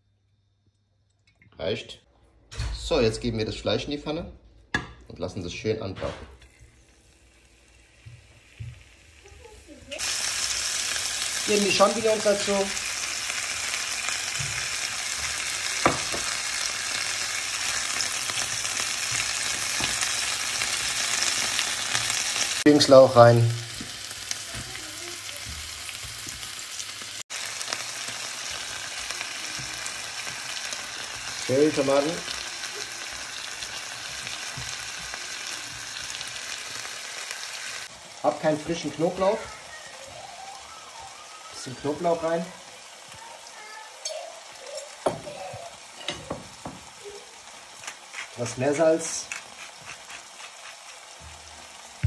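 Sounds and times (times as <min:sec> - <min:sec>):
meat sizzling in a grill pan: 0:06.4 - 0:52.0.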